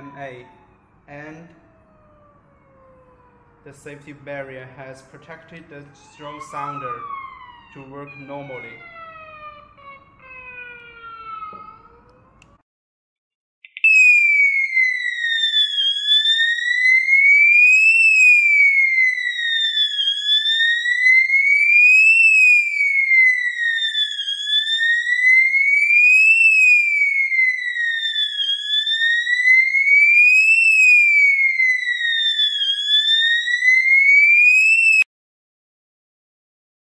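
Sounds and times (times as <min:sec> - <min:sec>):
wailing alarm siren: 0:00.0 - 0:12.6, 0:13.7 - 0:35.1.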